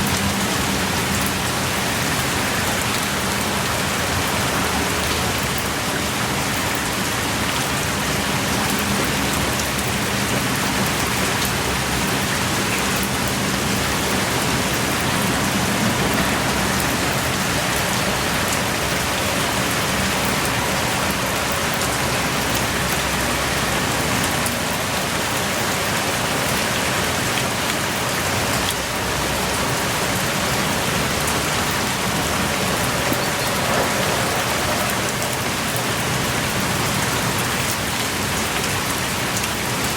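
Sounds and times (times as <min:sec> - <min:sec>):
heavy rain pouring: 0:00.0 - 0:39.9
raindrops pattering on surfaces: 0:00.0 - 0:39.9.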